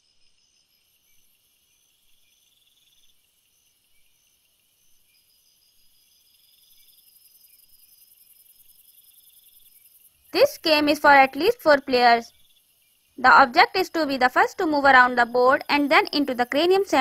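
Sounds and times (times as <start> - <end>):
faint high-pitched chirping: 0.0 - 17.0.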